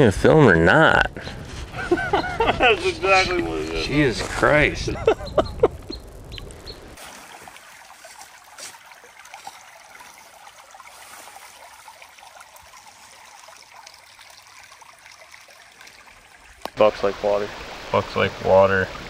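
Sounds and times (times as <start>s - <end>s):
creek trickling: 0.9s - 19.0s.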